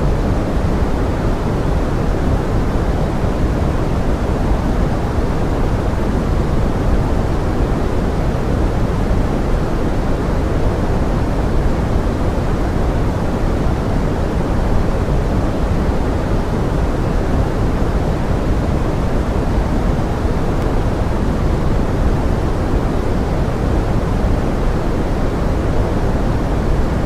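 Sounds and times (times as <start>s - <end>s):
pink noise hiss: 0.0s - 27.0s.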